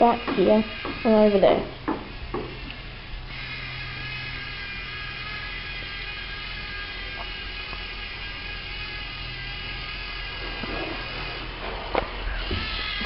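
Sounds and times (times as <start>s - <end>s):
robot motors and gears whirring: 0.0s - 13.0s.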